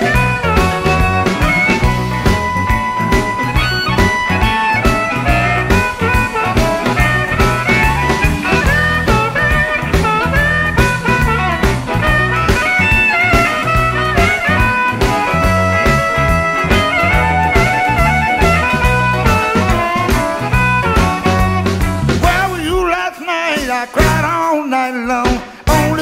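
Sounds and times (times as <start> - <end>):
lead instrument bending notes: 0.0 - 22.6
electric blues band playing: 0.0 - 26.0.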